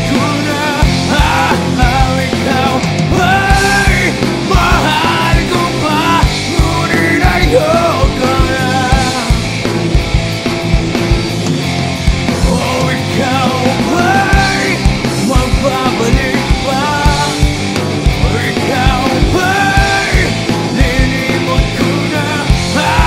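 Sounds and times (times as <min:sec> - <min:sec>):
person singing: 0:00.0 - 0:09.5, 0:12.4 - 0:17.4, 0:18.2 - 0:23.0
distorted electric guitar: 0:00.0 - 0:23.0
drum kit beat: 0:00.0 - 0:23.0
electric bass: 0:00.0 - 0:23.0.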